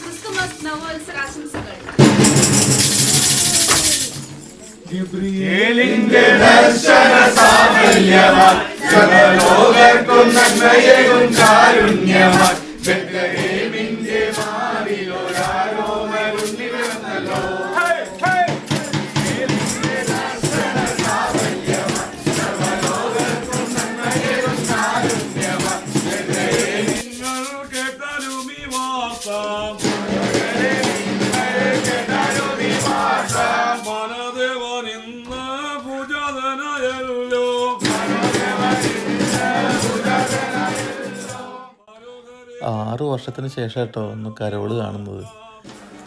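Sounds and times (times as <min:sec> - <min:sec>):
shaken rattle percussion: 0:02.0 - 0:35.4, 0:36.1 - 0:41.6, 0:45.6 - 0:46.0
group singing a carol: 0:02.0 - 0:42.8, 0:45.3 - 0:46.0.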